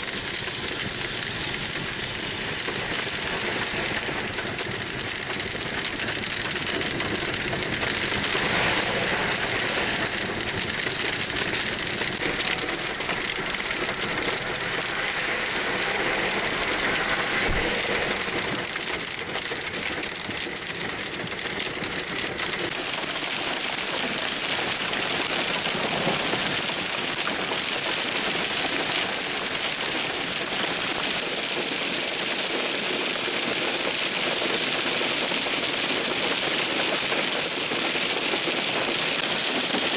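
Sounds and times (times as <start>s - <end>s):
hail pelting car roof: 0.0s - 39.9s.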